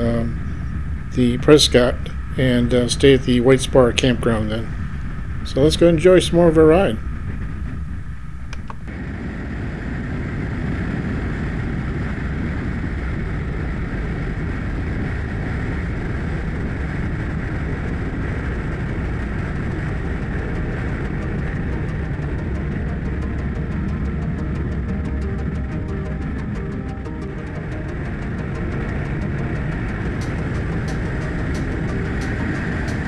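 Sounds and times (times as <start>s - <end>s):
motorcycle engine drone: 0.0s - 33.0s
wind noise: 0.0s - 33.0s.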